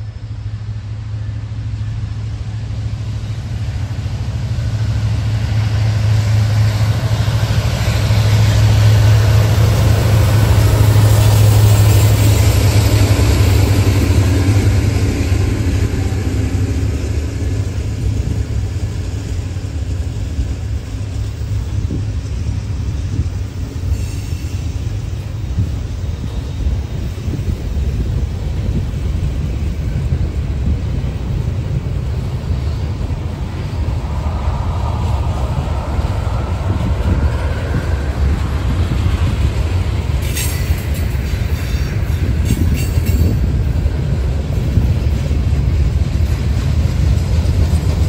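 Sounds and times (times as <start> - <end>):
diesel locomotive engines rumbling: 0.0 - 48.0.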